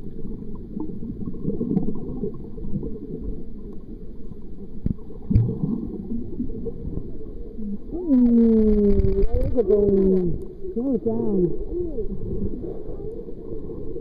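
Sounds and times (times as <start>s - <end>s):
underwater sloshing and bubbling: 0.0s - 14.0s.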